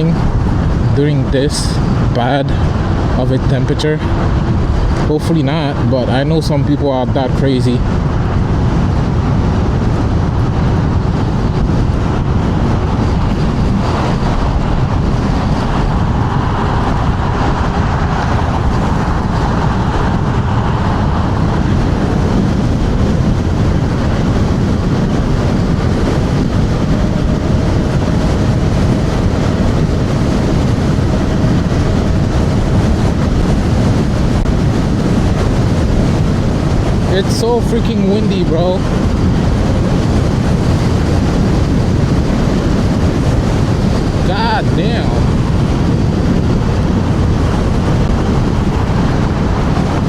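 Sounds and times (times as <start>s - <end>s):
road and tyre rumble: 0.0s - 50.0s
wind buffeting microphone: 0.0s - 50.0s.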